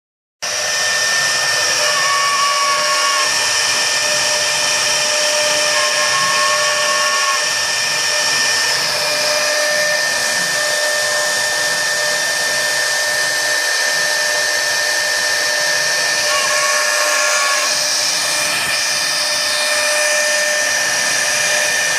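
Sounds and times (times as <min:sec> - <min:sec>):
router spindle whine: 0:00.4 - 0:21.9
wood cutting hiss: 0:00.5 - 0:21.9.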